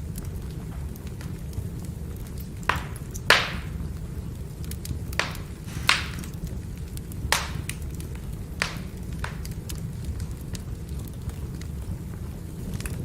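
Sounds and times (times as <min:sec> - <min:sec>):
fire sharp pops: 0:00.0 - 0:13.0
firewood crackling: 0:00.0 - 0:13.0.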